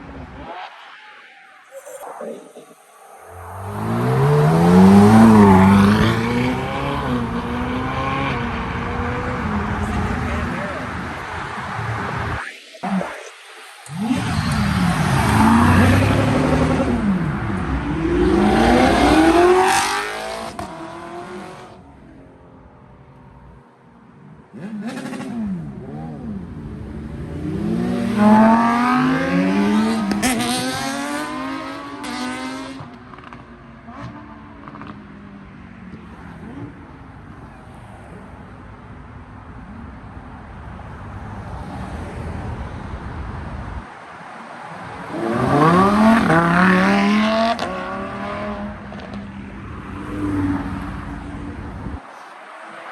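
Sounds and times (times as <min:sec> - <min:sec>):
sports cars accelerating past: 0:00.0 - 0:12.4, 0:13.8 - 0:23.0, 0:24.5 - 0:38.2, 0:43.8 - 0:52.9.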